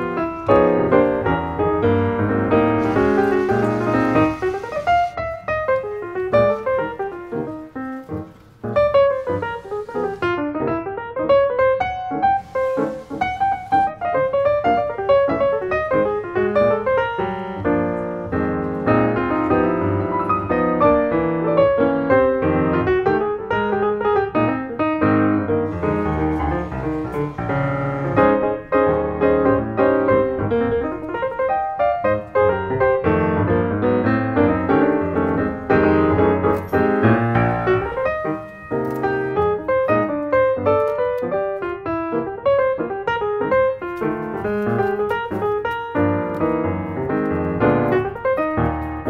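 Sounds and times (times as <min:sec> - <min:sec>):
piano playing quick runs: 0:00.0 - 0:49.0.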